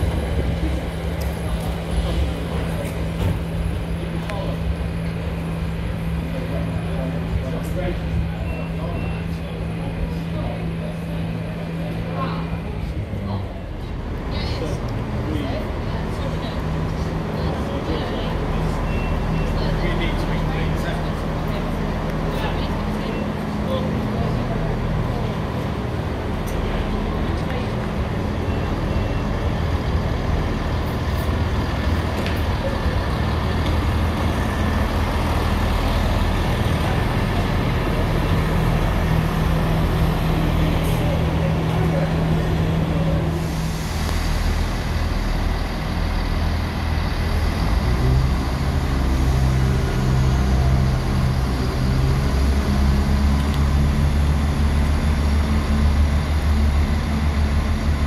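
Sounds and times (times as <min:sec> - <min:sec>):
diesel train engines droning: 0:00.0 - 0:58.0.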